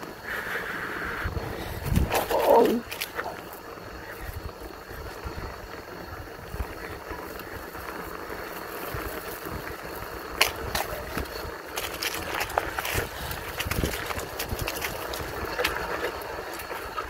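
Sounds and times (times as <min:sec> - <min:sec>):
mountain bike rolling on dirt trail: 0:00.0 - 0:17.0
bike clattering over bumps: 0:01.3 - 0:17.0.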